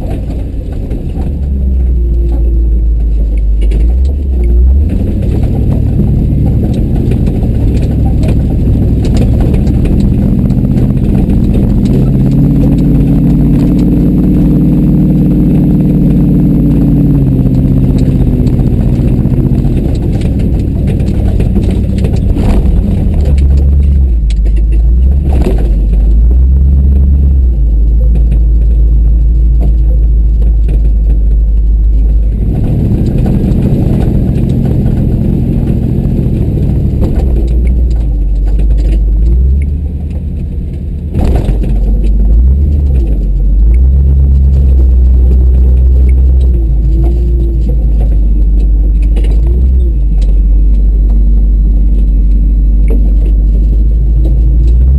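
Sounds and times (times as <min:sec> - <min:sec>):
rattling: 0:00.0 - 0:54.9
truck engine rumbling: 0:00.0 - 0:54.9.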